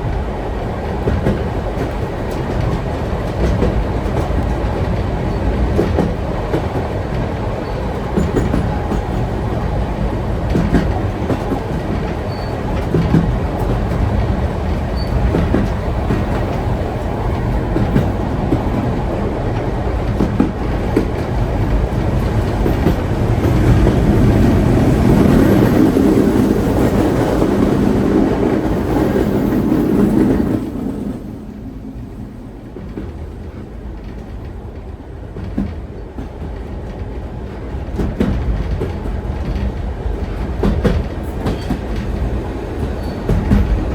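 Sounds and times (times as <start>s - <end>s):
train carriage rumbling on track: 0.0s - 43.9s
wheels clicking on rails: 0.8s - 31.2s, 32.7s - 43.9s.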